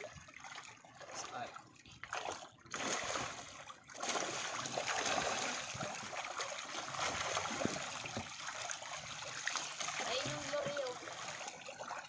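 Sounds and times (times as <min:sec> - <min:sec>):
fish thrashing and splashing water: 0:00.0 - 0:12.0.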